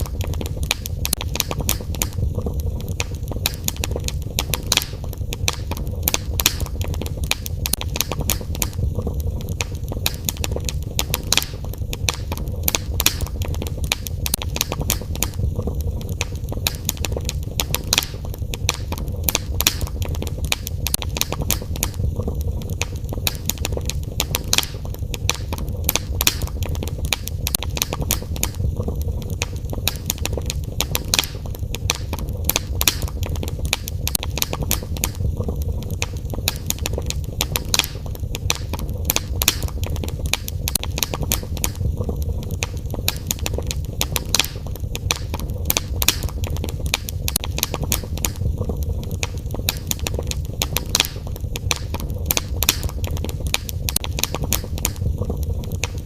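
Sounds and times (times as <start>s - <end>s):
low rumble: 0.0s - 17.7s, 24.9s - 37.4s, 39.7s - 50.6s, 51.3s - 56.0s
fireplace fire crackling: 0.0s - 56.0s
sharp pops of fire: 0.0s - 56.0s.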